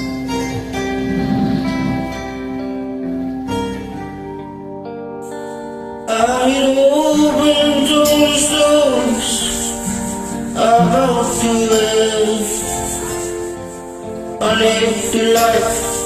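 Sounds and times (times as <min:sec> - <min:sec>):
person singing karaoke: 0:00.0 - 0:04.2, 0:05.2 - 0:16.0
soft backing track: 0:00.0 - 0:16.0.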